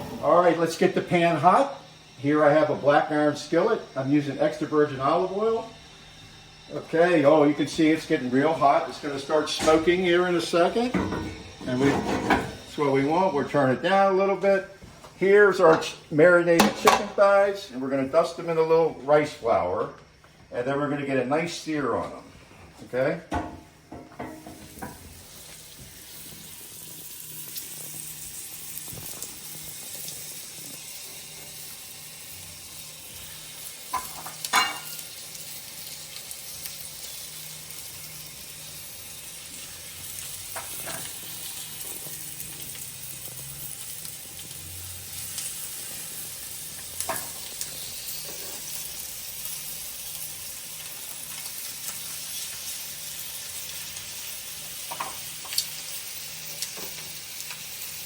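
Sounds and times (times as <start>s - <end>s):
chicken sizzling in oil: 0.0s - 13.7s, 23.8s - 58.0s.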